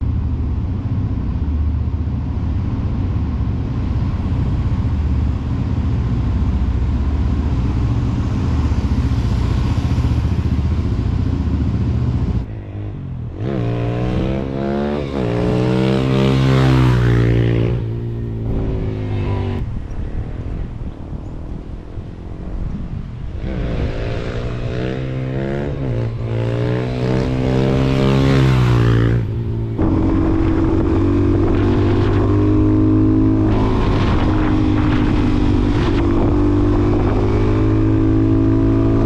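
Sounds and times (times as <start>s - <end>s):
motorcycle engine running and revving: 0.0s - 39.0s.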